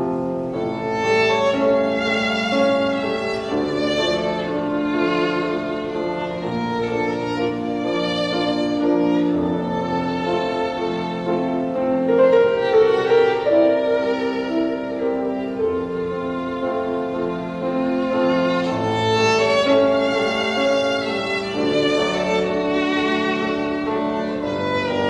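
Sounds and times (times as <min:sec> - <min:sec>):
violin music: 0:00.0 - 0:25.0.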